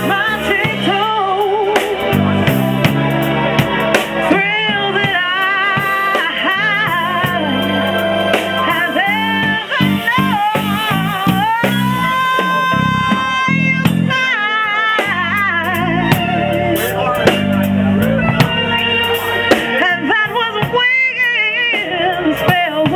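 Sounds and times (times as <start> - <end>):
woman singing soul song: 0.0 - 2.5, 4.2 - 17.4, 18.3 - 22.9
drum kit: 0.0 - 22.9
electric bass: 0.0 - 22.9.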